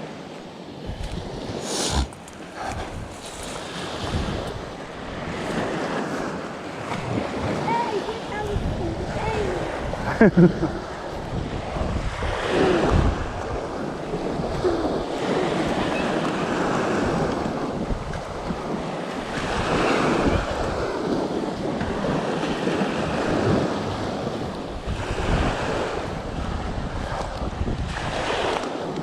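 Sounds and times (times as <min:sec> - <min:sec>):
waves washing against shore: 0:00.0 - 0:29.0
wind buffeting microphone: 0:00.3 - 0:29.0.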